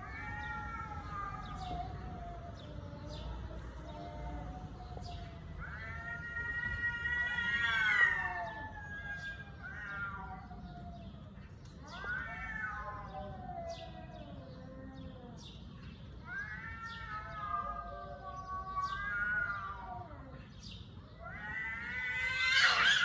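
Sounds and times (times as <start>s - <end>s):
cat yowling: 0.0s - 15.4s, 16.2s - 20.5s, 21.2s - 23.0s.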